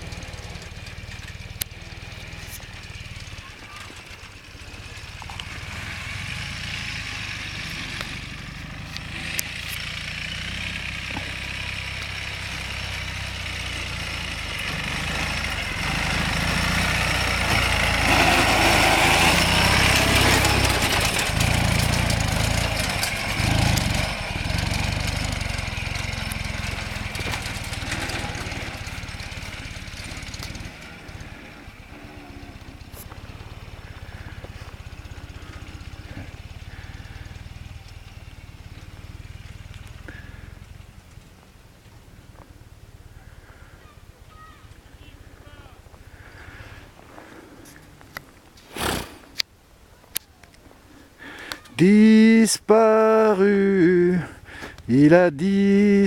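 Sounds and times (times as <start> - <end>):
motorcycle engine running: 0.0 - 48.8, 51.7 - 56.0.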